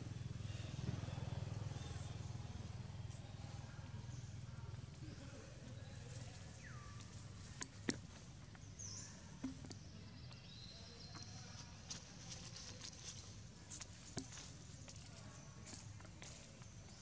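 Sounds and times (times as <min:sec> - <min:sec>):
forest ambience: 0:00.0 - 0:17.0.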